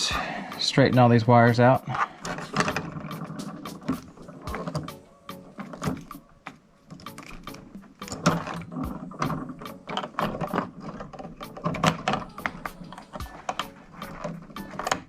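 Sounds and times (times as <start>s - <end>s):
wire strippers clicking and scraping: 0.6s - 15.0s.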